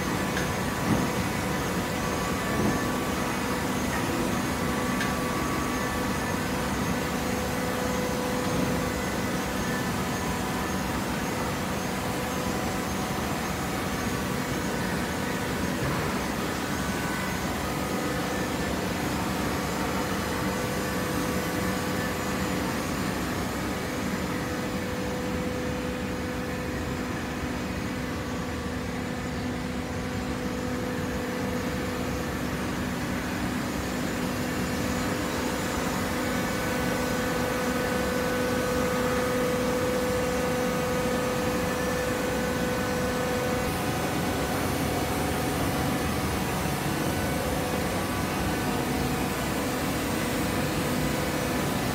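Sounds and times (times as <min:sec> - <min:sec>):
hydraulic baler humming and whining: 0:00.0 - 0:51.9.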